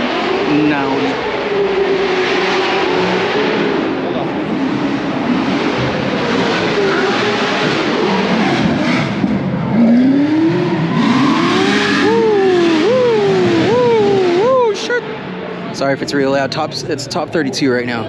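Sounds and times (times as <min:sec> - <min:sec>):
car engine revving: 0:00.0 - 0:18.0
engine and tyre noise: 0:00.0 - 0:18.0.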